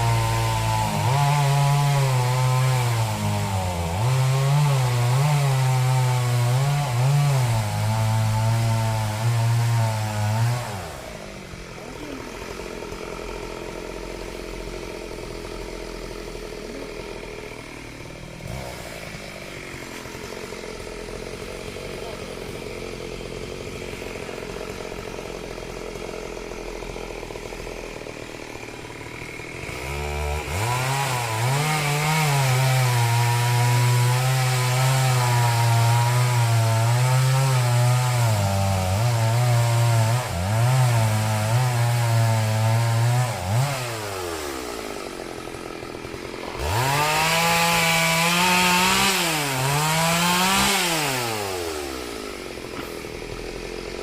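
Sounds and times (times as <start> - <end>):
chainsaw cutting wood: 0.0 - 54.0
chainsaw idling and revving: 0.0 - 54.0.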